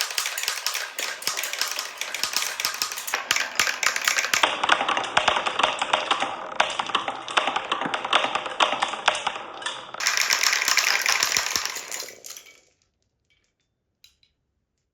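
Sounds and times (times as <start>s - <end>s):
marbles rattling down wooden run: 0.0s - 12.6s.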